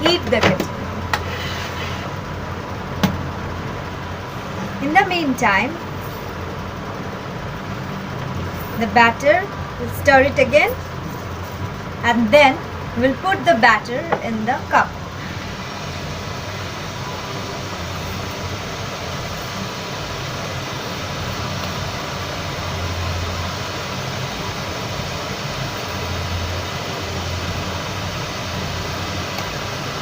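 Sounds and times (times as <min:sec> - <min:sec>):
electric kettle heating water: 0:00.0 - 0:30.0.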